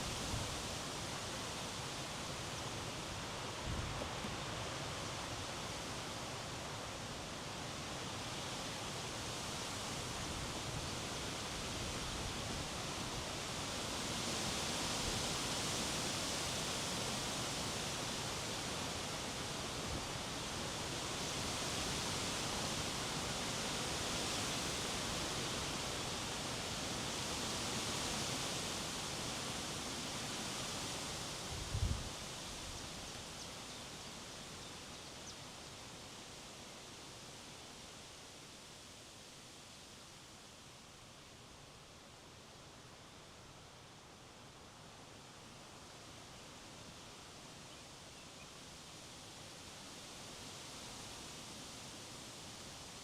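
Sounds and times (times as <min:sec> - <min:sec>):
wind gusting through trees: 0:00.0 - 0:53.0.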